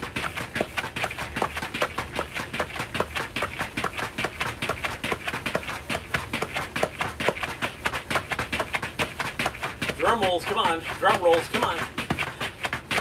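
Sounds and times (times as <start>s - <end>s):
battle ropes slapping floor: 0.0s - 13.0s.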